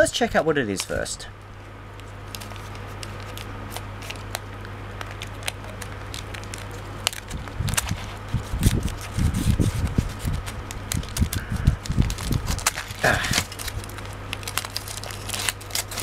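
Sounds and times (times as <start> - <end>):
aluminium foil crinkling: 1.9 - 16.0.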